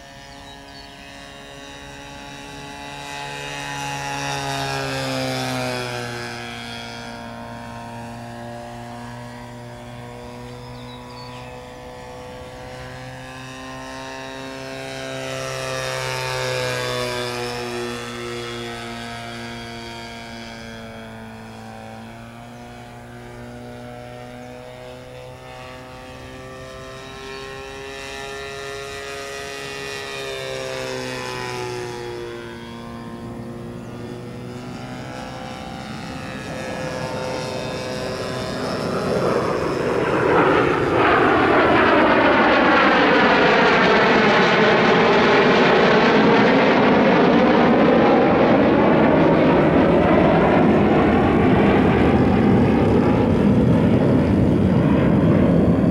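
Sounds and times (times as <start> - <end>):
model airplane engine in flight: 0.0 - 55.9.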